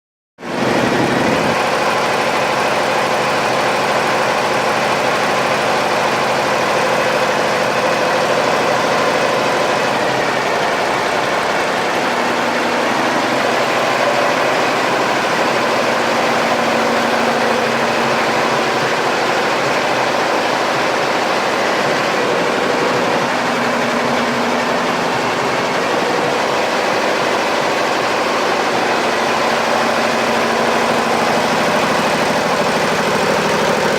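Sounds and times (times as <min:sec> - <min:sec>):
embroidery machine whirring: 0:00.5 - 0:33.9.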